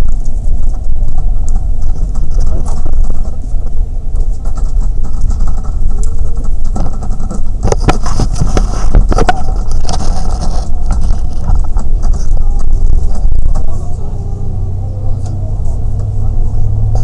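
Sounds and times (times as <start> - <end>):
camera scraping against clothing: 0.0 - 14.0
bus engine and road rumble: 0.0 - 17.0.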